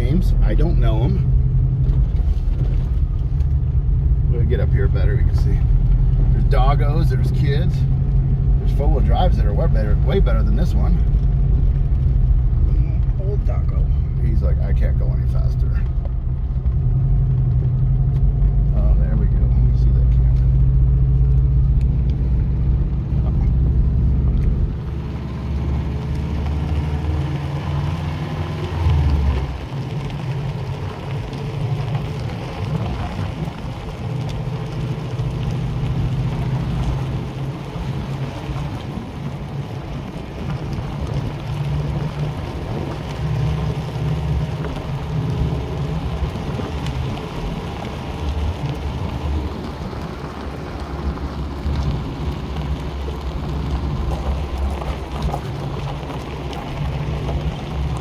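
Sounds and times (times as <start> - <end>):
car engine low rumble: 0.0 - 58.0
tyres crunching over gravel: 0.0 - 58.0.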